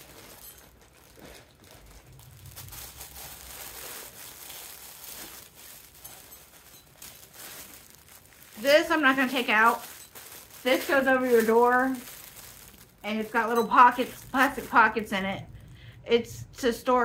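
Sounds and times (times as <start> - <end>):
plastic packaging crinkling: 0.0 - 15.9.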